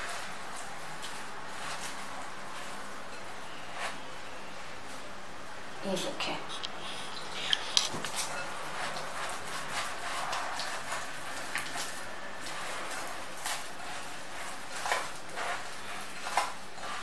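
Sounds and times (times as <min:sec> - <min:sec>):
dough kneading rustle: 0:00.0 - 0:17.0.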